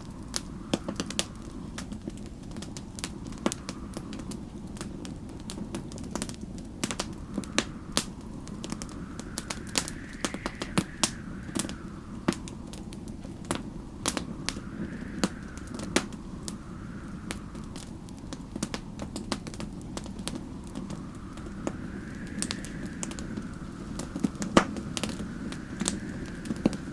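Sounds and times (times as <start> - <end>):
low fire rumble: 0.0 - 26.9
storm wind howling: 0.0 - 26.9
wood fire crackling and popping: 0.0 - 26.9.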